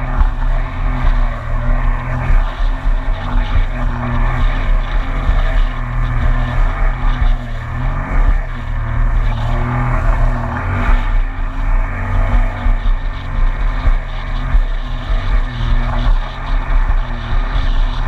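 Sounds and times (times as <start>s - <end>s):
personal watercraft engine: 0.0s - 18.0s.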